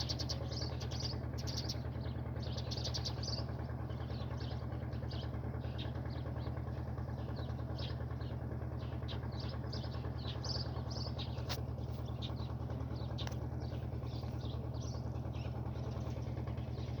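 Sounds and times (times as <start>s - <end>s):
low mechanical hum: 0.0s - 17.0s
small birds chirping: 0.0s - 17.0s.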